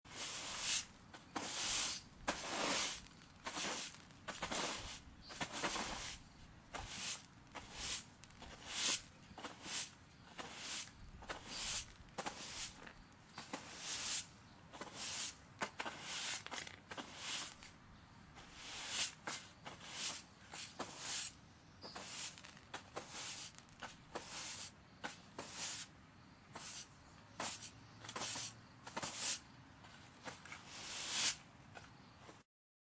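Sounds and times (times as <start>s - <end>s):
broom sweeping: 0.1s - 17.7s, 18.4s - 25.9s, 26.5s - 31.5s.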